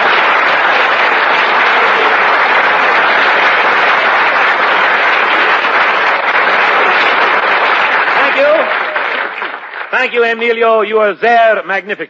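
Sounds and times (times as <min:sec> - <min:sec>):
audience laughing and applauding: 0:00.0 - 0:10.7.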